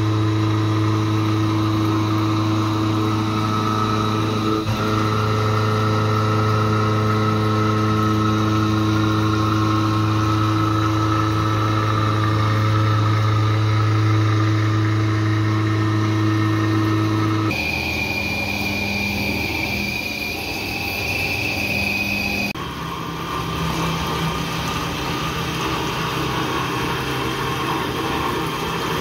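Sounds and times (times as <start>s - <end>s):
milling machine whining: 0.0s - 29.0s.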